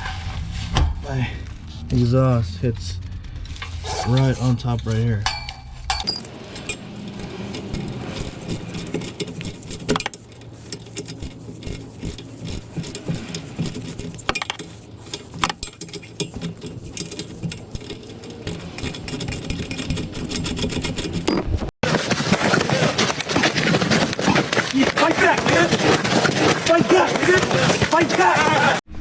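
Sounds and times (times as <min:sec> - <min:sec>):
metal tools clinking and rattling: 0:03.5 - 0:21.7, 0:22.3 - 0:28.8.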